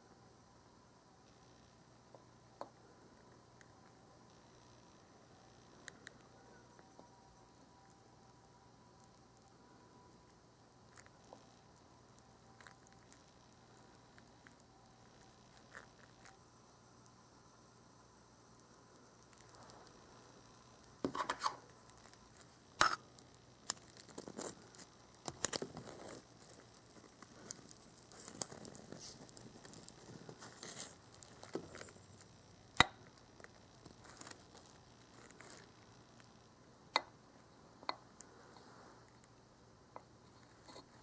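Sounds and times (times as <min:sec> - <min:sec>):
pancake crackling: 0:02.1 - 0:41.0.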